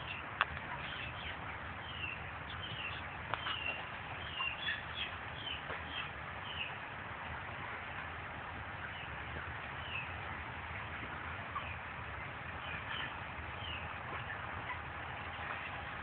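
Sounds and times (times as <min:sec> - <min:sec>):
poultry chirping: 0:00.0 - 0:16.0.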